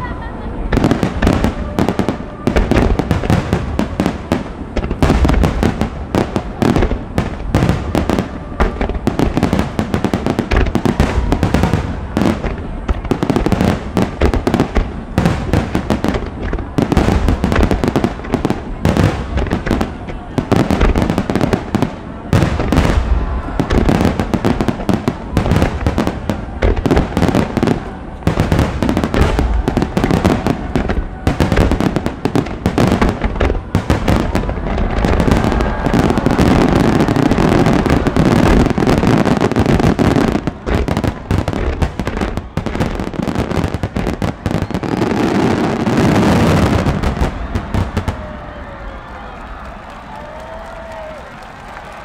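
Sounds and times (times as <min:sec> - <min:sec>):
booms and crackling: 0:00.7 - 0:48.5.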